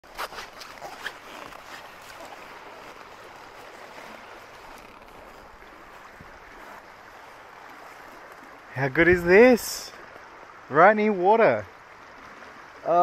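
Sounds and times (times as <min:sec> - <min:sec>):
creek flowing: 0:00.0 - 0:13.0.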